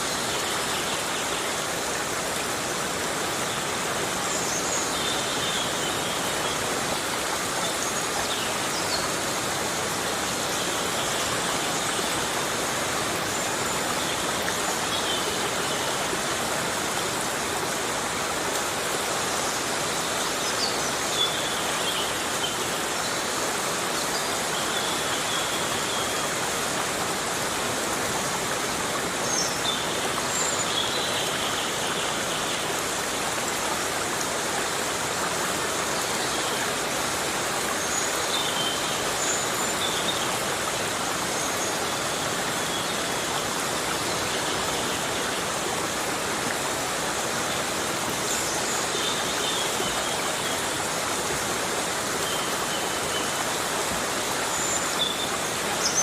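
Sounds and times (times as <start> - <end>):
heavy rain in a forest: 0.0 - 56.0.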